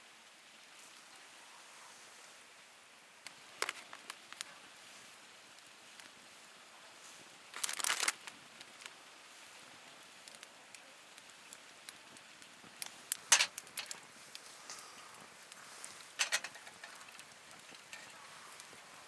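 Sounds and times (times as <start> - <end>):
wood fire crackling: 0.6 - 19.0
crinkling rustling noise: 3.2 - 19.0.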